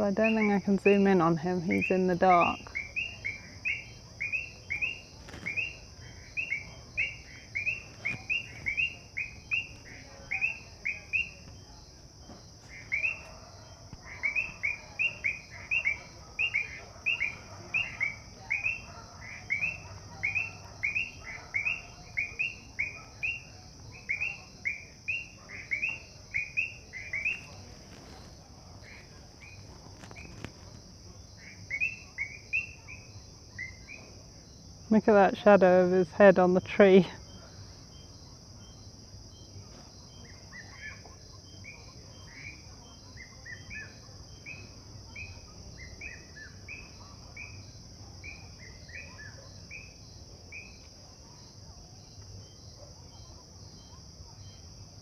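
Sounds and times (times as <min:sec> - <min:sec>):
frogs chirping: 0:00.0 - 0:55.0
frogs trilling: 0:00.0 - 0:55.0.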